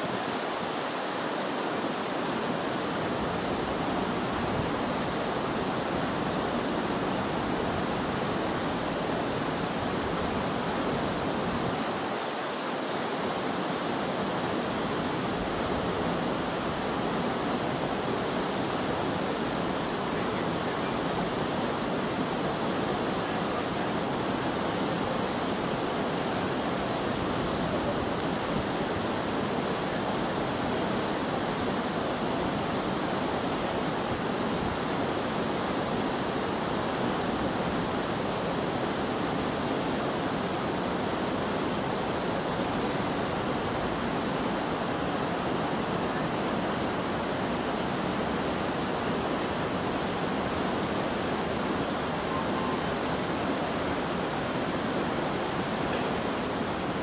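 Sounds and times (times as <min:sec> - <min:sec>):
whitewater rushing over boulders: 0:00.0 - 0:57.0.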